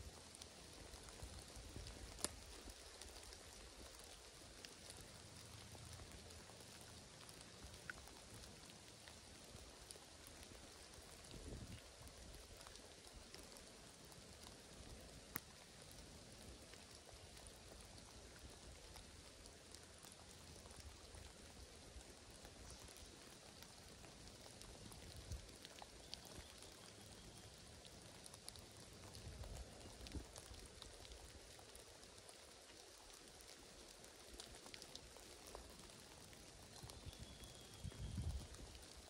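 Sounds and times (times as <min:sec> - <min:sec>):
faint rain patter: 0:00.0 - 0:39.0
single raindrops landing close: 0:00.0 - 0:39.0.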